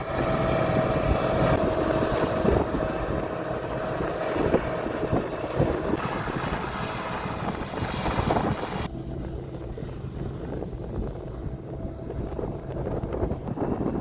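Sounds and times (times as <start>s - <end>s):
combine harvester engine running: 0.0s - 14.0s
wind buffeting microphone: 0.0s - 14.0s.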